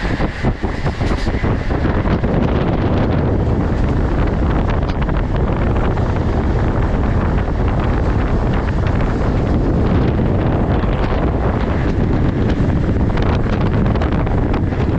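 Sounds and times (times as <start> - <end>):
passenger train rumbling at speed: 0.0 - 14.9
wind rushing: 0.0 - 14.9.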